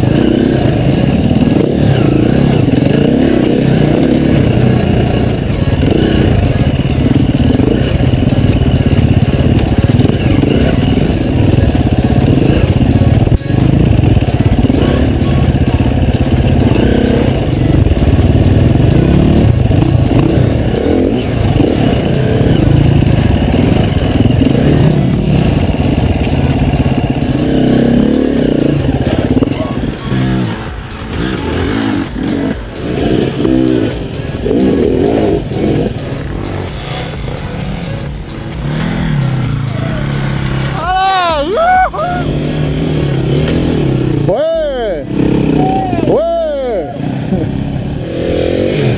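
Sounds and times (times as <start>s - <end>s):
background music: 0.0s - 48.9s
motorcycle engine revving: 0.0s - 48.9s.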